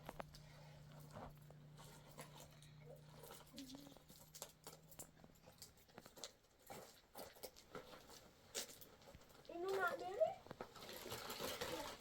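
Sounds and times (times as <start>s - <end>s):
faint clicks and rustles: 0.0s - 12.0s
low steady hum: 0.0s - 12.0s.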